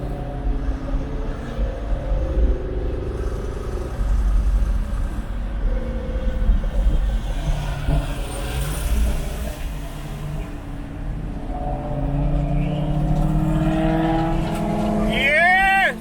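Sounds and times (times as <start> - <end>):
sports car engine and exhaust: 0.0 - 16.0.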